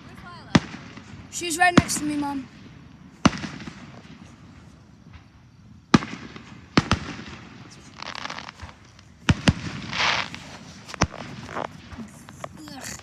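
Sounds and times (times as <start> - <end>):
fireworks bangs: 0.0 - 13.0
fireworks hissing: 0.5 - 13.0.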